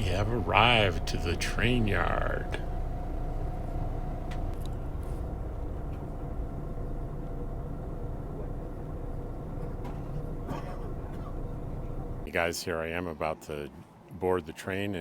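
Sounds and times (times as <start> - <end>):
vehicle rumble: 0.0 - 12.3.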